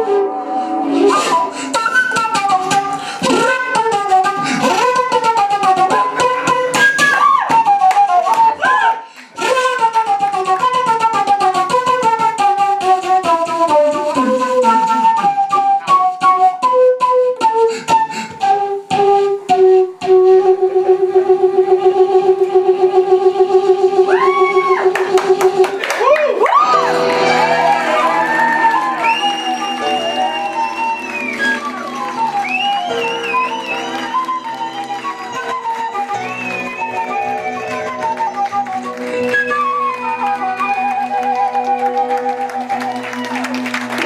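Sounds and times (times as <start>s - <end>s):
flute solo: 0.0s - 44.0s.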